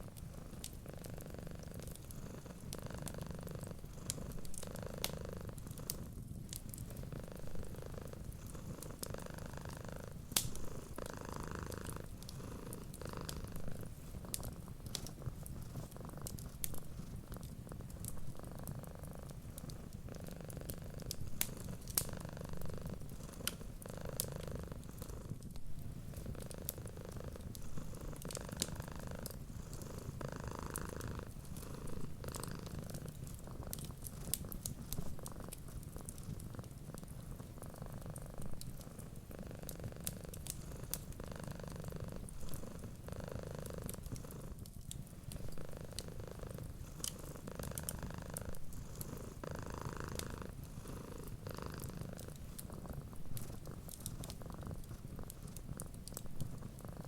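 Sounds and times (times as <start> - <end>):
cat purring: 0.0 - 57.0
fireplace crackling: 0.0 - 57.0.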